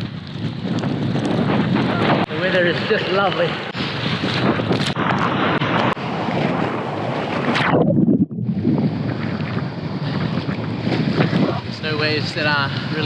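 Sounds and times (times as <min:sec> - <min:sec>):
rough surf splashing: 0:00.0 - 0:13.0
wind buffeting microphone: 0:00.0 - 0:13.0.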